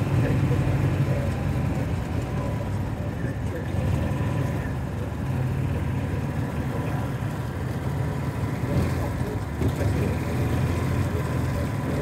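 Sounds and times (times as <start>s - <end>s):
utility vehicle engine humming: 0.0s - 12.0s.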